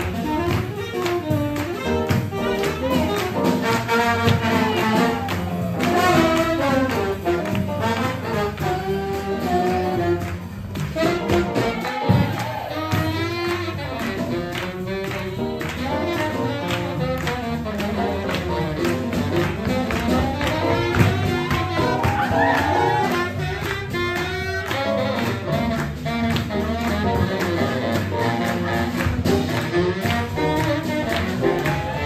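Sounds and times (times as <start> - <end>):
piano: 0.0 - 32.0
saxophone: 0.0 - 32.0
swing jazz band playing: 0.0 - 32.0.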